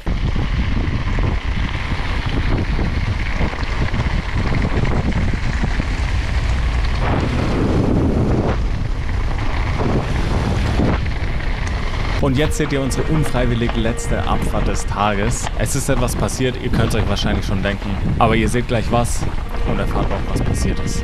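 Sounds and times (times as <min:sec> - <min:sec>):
bike rumbling and rattling on trail: 0:00.0 - 0:21.0
wind rushing over microphone: 0:00.0 - 0:21.0.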